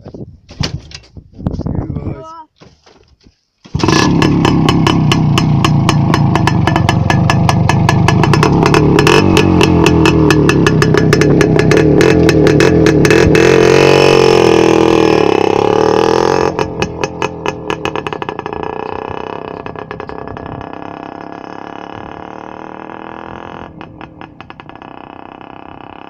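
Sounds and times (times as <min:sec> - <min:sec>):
motorcycle engine starting: 0:03.6 - 0:26.0
loud motorcycle engine popping: 0:03.7 - 0:26.0.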